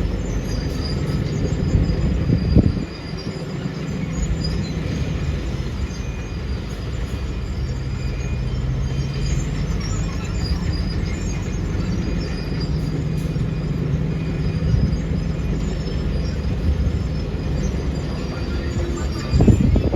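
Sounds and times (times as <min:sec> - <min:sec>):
excavator diesel engine running: 0:00.0 - 0:19.9
mechanical noise: 0:00.0 - 0:19.9.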